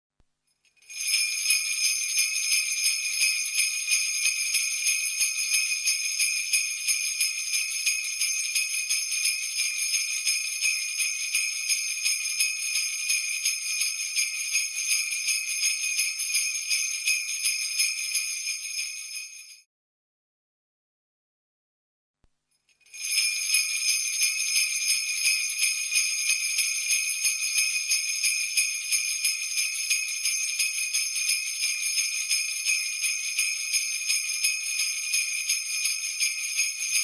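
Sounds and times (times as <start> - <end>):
jingle bells shaken rhythmically: 0.7 - 19.6, 22.8 - 37.0.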